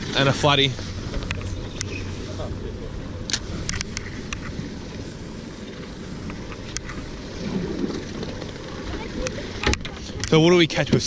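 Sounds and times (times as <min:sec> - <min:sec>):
water lapping around boat: 0:00.0 - 0:11.0
wind buffeting microphone: 0:00.0 - 0:11.0.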